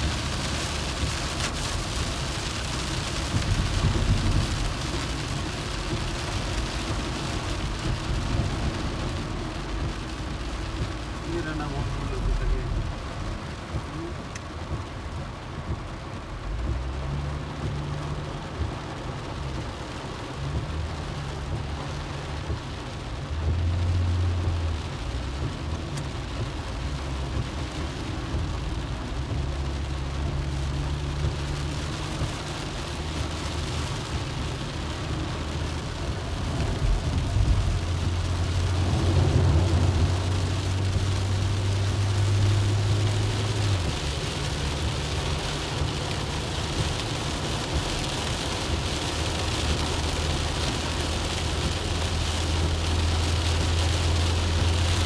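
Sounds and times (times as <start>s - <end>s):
car engine and road drone: 0.0s - 55.0s
rain hissing: 0.0s - 55.0s
tyres on wet road: 0.0s - 55.0s.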